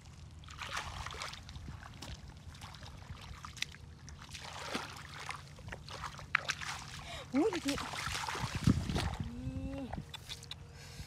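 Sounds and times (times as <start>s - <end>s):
bare feet splashing in muddy water: 0.0s - 10.6s.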